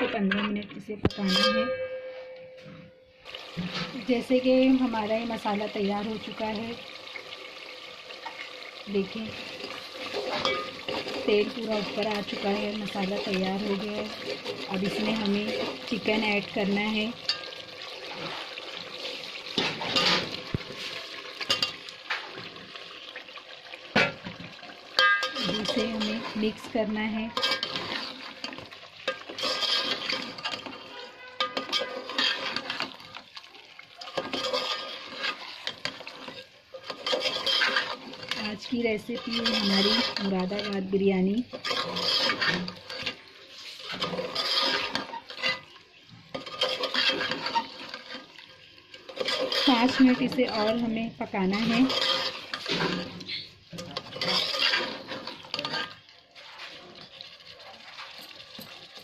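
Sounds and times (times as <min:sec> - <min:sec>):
food splashing into a pot: 0:03.2 - 0:59.0.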